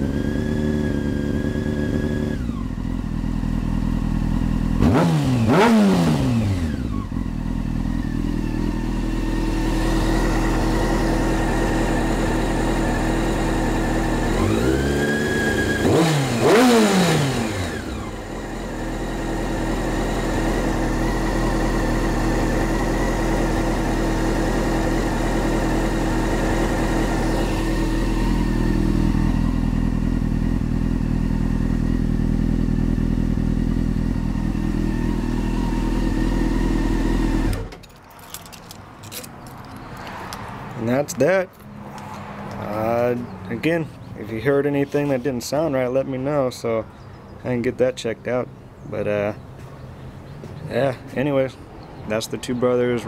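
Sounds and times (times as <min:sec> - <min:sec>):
motorcycle engine revving and idling: 0:00.0 - 0:48.2.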